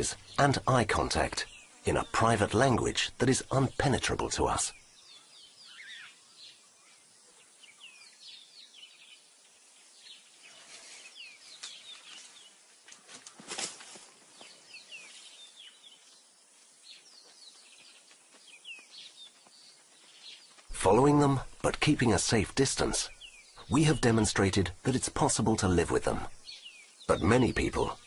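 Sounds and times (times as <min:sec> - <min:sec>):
soft outdoor hiss: 0:00.0 - 0:28.0
wild birds chirping and whistling: 0:00.0 - 0:28.0.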